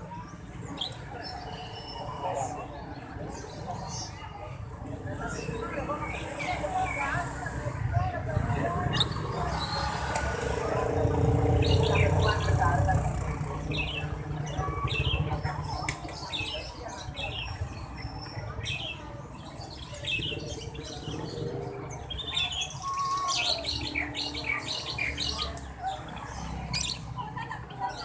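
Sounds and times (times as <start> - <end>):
birds chirping and twittering: 0.0 - 28.0.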